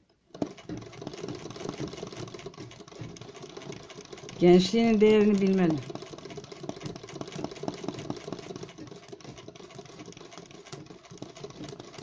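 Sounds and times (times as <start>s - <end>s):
sewing machine clatter: 0.0s - 12.0s.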